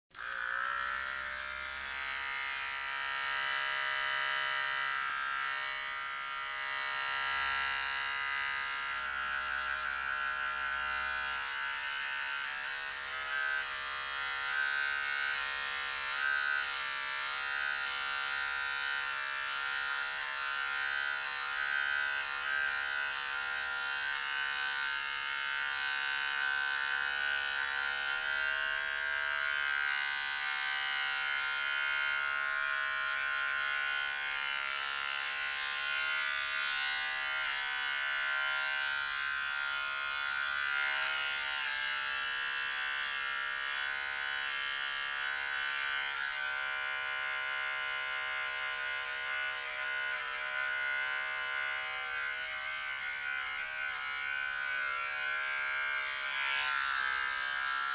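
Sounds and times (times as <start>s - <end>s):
electric hair trimmer buzzing: 0.1s - 57.9s.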